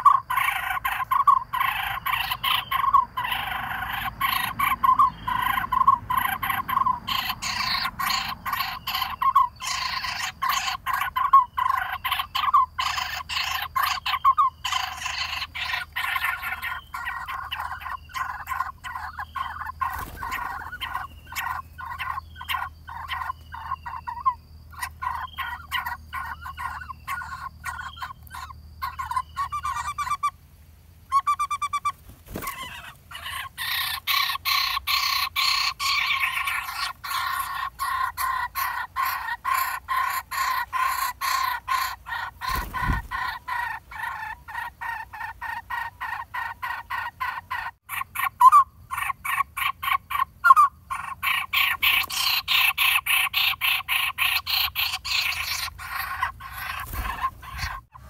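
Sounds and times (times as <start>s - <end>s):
nestling begging with harsh calls: 0.0s - 30.4s, 31.0s - 58.0s.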